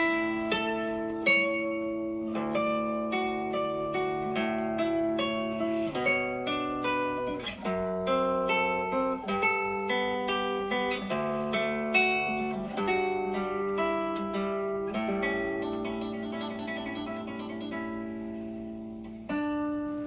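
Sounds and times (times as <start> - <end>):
acoustic guitar plucking chords: 0.0 - 20.0.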